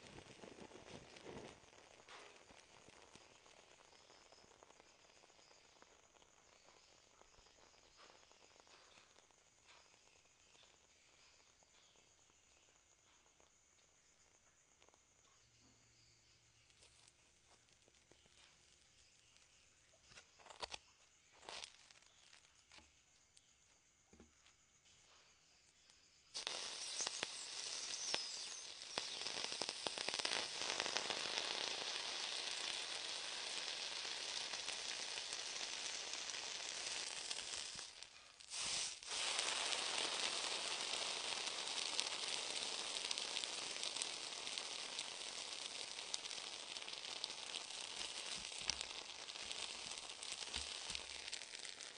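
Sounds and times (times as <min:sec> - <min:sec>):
hot metal sizzling on burger: 0:00.0 - 0:15.0, 0:20.3 - 0:22.8, 0:25.6 - 0:51.9.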